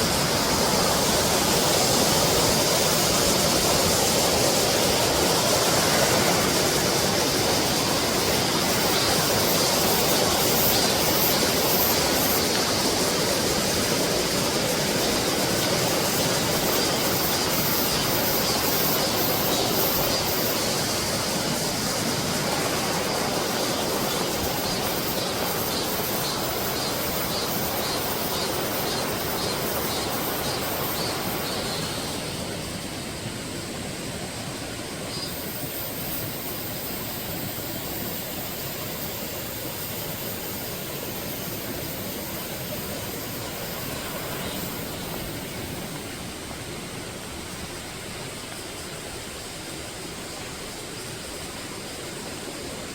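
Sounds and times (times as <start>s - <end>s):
cicadas buzzing: 0.0s - 52.9s
stream water running: 0.0s - 52.9s.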